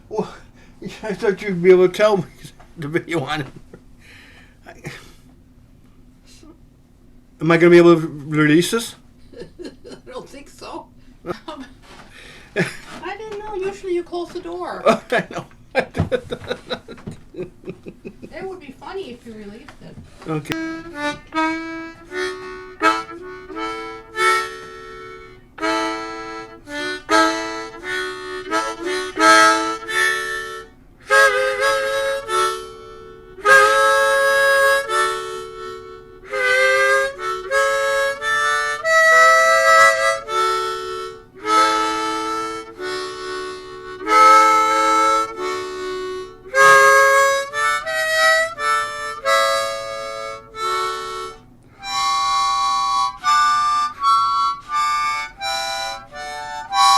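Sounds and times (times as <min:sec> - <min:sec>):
harmonica playing blues: 0:00.0 - 0:05.2, 0:09.6 - 0:15.4, 0:16.0 - 0:56.9.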